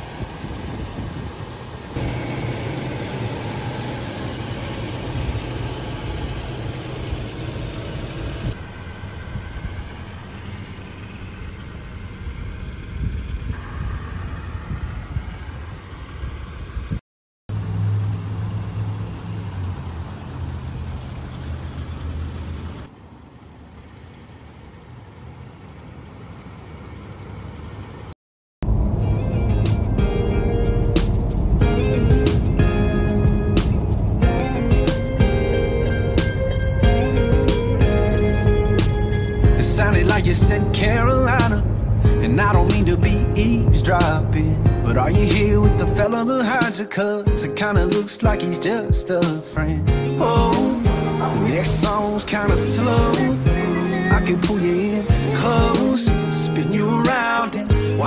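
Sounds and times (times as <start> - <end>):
vehicle engine: 0.0 - 46.3, 49.5 - 58.0
road noise: 0.0 - 58.0.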